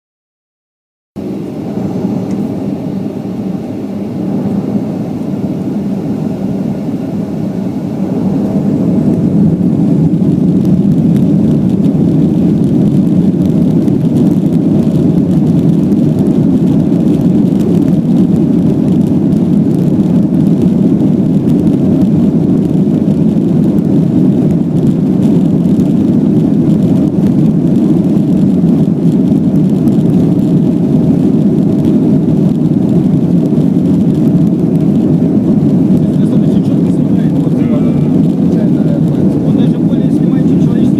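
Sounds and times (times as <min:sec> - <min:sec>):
vehicle rumble: 0:01.2 - 0:40.9.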